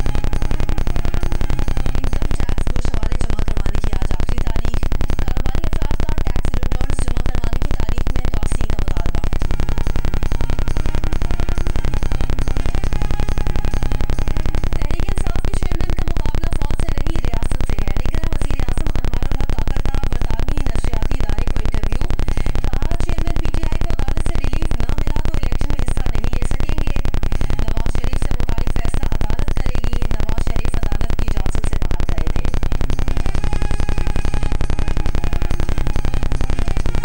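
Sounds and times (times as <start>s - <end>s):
loud buzzing with deep hum: 0.0s - 37.0s.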